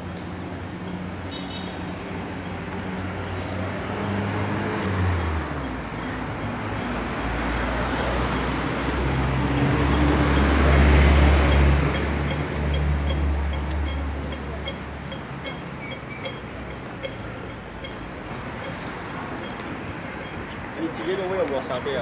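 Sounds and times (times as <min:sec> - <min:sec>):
road traffic passing: 0:00.0 - 0:22.0
large vehicle engine roar: 0:01.8 - 0:20.8.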